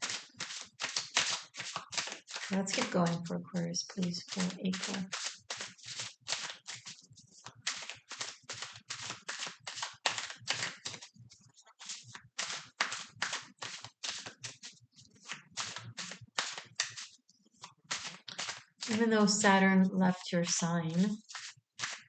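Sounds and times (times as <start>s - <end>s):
cards being shuffled: 0.0s - 11.1s, 11.8s - 19.1s, 20.9s - 22.0s.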